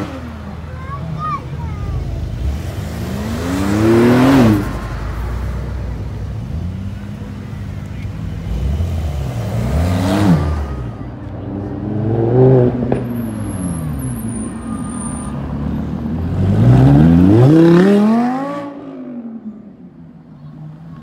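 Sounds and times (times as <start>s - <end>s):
sports cars accelerating: 2.2s - 19.7s.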